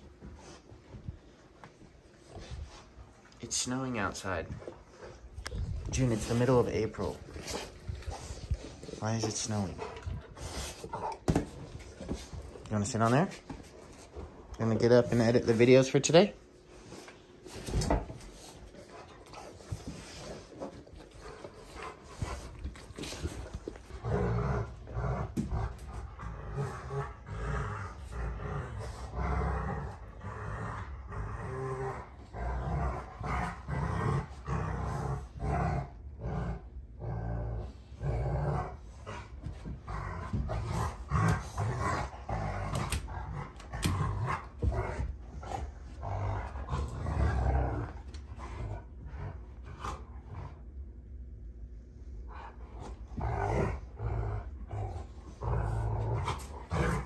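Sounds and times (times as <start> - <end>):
dogs growling: 2.2 - 50.8, 52.2 - 57.0.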